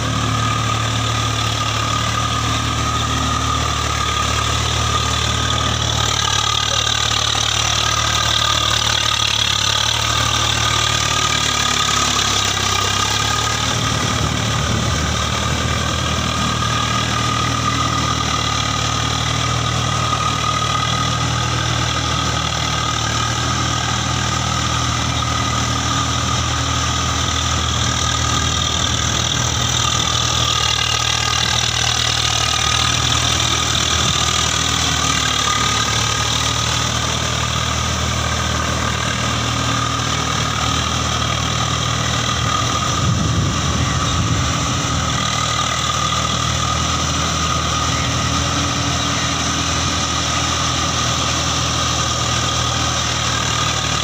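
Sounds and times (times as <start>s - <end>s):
tiller churning wet mud: 0.0s - 54.0s
tractor engine running: 0.0s - 54.0s.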